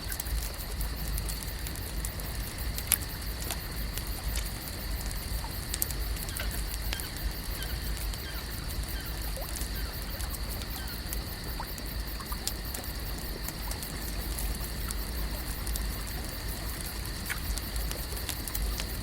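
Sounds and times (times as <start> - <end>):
small crackles and ticks: 0.0 - 19.0.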